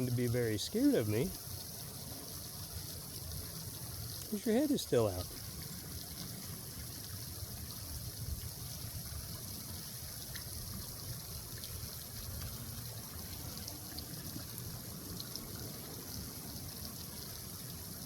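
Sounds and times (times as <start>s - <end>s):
water trickling: 0.0s - 18.0s.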